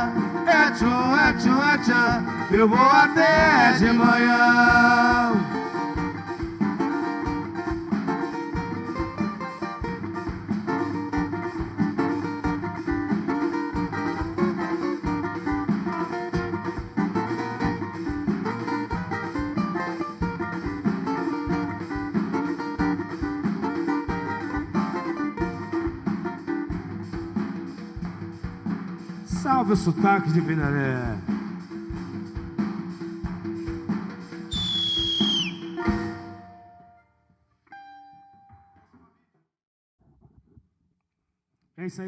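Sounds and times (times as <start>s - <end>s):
acoustic guitar music: 0.0s - 39.0s.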